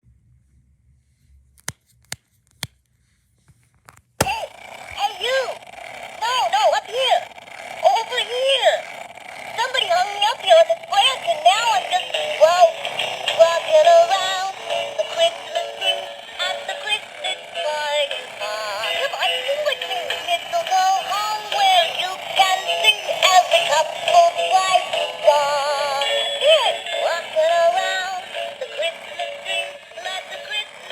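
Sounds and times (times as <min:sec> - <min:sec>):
motor grinding with clicks: 0:04.2 - 0:30.9.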